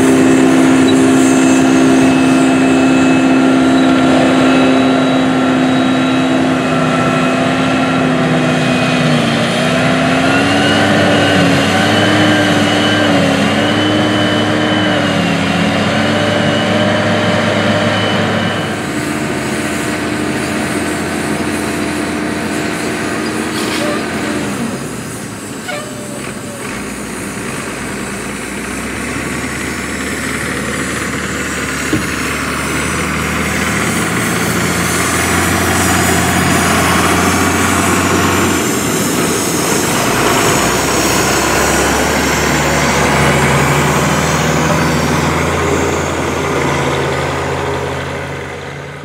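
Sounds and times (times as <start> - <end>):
heavy diesel engines running: 0.0 - 49.0.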